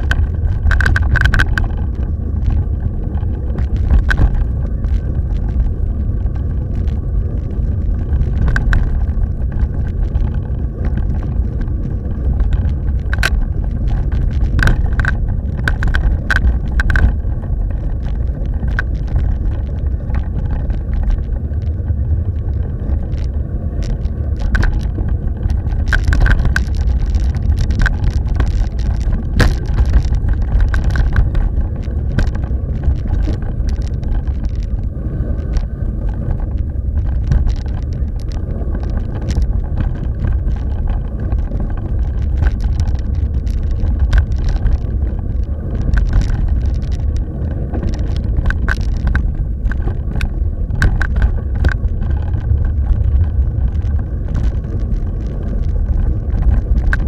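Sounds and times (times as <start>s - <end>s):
bike clicking and rattling: 0.0s - 57.0s
bike tyres rumbling on gravel: 0.0s - 57.0s
wind buffeting the microphone: 0.0s - 57.0s.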